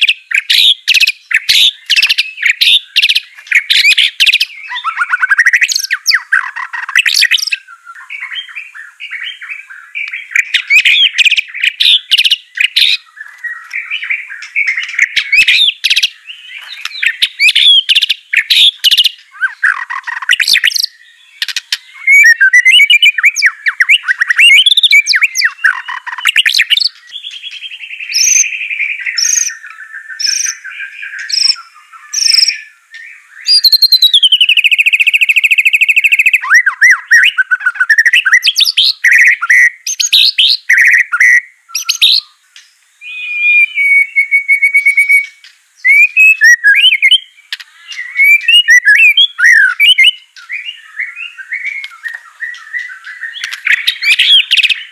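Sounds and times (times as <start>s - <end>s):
bird singing whistled song: 0.0s - 54.9s.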